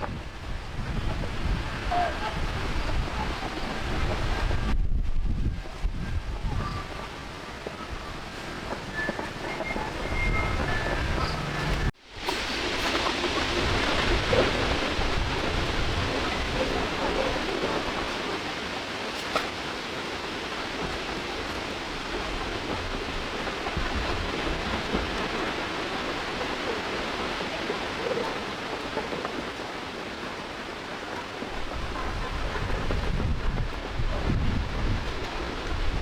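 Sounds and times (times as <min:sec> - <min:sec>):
steady outdoor rushing noise: 0:00.0 - 0:36.0.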